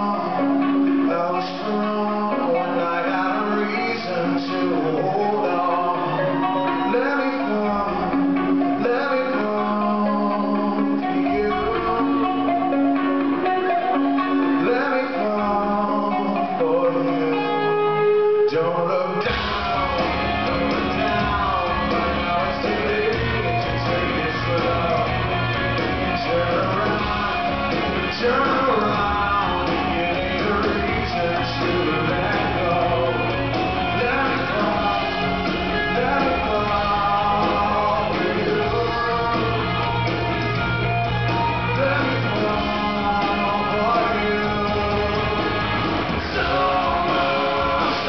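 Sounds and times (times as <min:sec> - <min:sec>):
live rock band playing: 0:00.0 - 0:48.0
man singing: 0:00.0 - 0:48.0.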